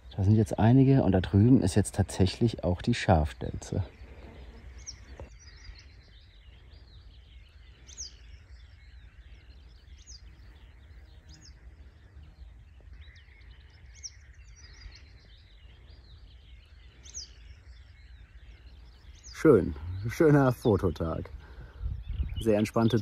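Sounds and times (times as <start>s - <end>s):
songbirds twittering: 0.0s - 23.0s.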